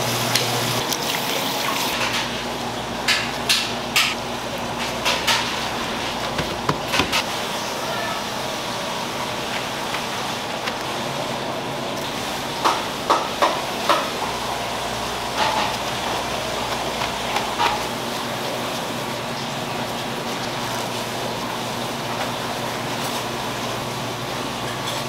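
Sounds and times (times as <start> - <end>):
kitchen background noise: 0.0 - 25.0.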